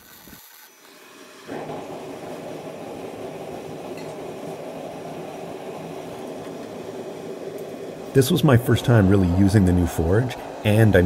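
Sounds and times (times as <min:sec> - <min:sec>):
gas burner igniting: 0:00.0 - 0:11.0
rush of burning gas: 0:00.0 - 0:11.0.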